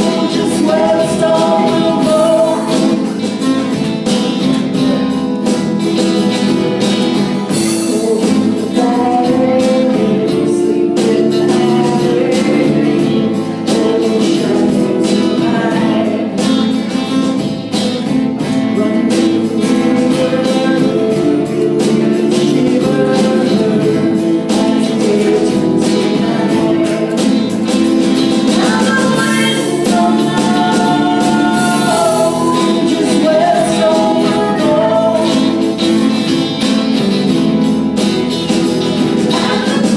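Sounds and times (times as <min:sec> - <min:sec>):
person singing: 0:00.0 - 0:05.4, 0:07.5 - 0:17.5, 0:18.4 - 0:36.5, 0:39.0 - 0:39.9
live band playing: 0:00.0 - 0:39.9.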